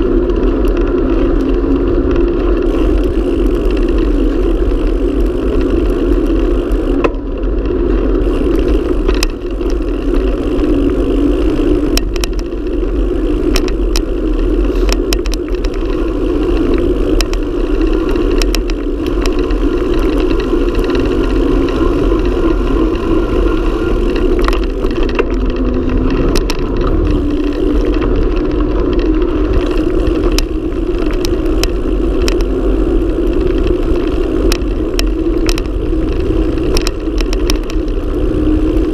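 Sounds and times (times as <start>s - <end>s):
bike rattling over bumps: 0.0s - 38.9s
bike tyres roaring on asphalt: 0.0s - 38.9s
wind rushing over microphone: 0.0s - 38.9s.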